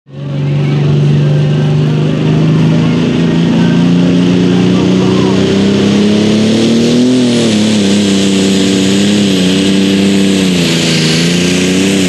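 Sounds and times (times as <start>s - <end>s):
tractor diesel engine at full throttle: 0.1s - 12.0s.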